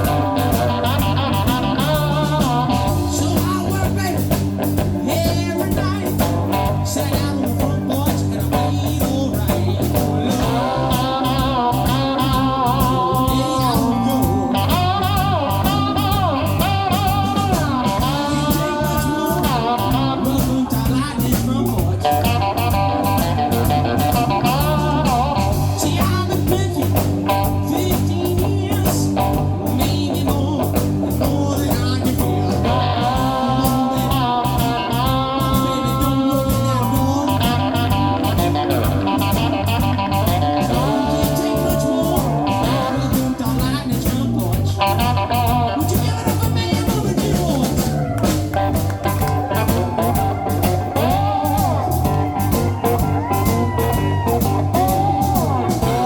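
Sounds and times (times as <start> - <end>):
slide guitar: 0.0 - 56.0
steady drum beat: 0.0 - 56.0.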